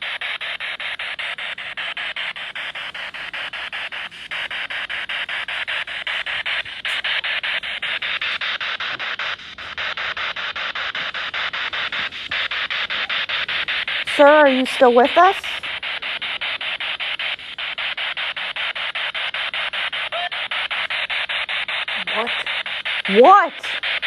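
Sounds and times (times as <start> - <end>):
pulsing radio static hiss: 0.0 - 24.0.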